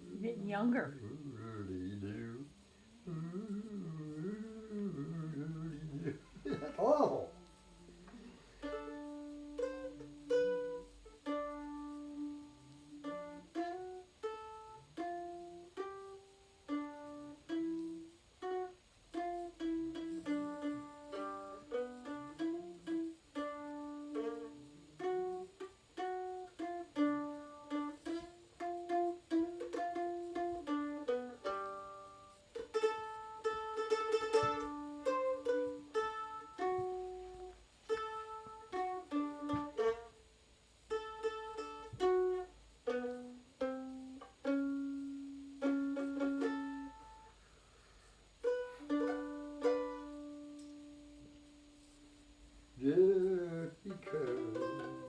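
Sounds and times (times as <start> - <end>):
mandolin playing melody: 0.0 - 2.5, 4.9 - 40.3, 40.9 - 47.5, 48.4 - 55.0.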